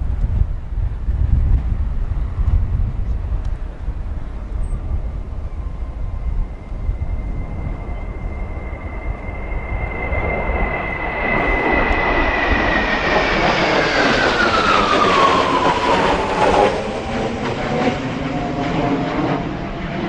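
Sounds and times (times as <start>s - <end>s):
high turbine whine: 0.0s - 20.0s
jet passing by: 0.0s - 20.0s.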